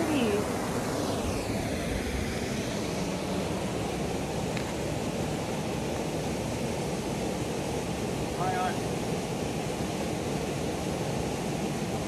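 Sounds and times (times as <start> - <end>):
river flowing: 0.0 - 12.0
waterfall rushing: 1.6 - 12.0.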